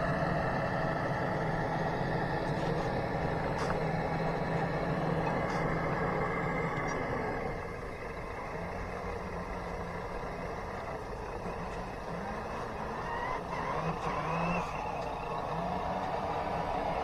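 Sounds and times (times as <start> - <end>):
toy truck motor whine: 0.0 - 17.0.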